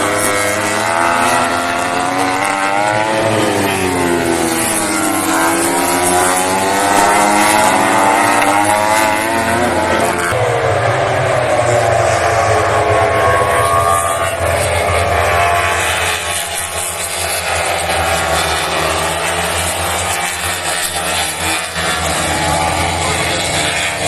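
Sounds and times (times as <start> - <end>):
racing motorcycles passing: 0.0 - 24.0.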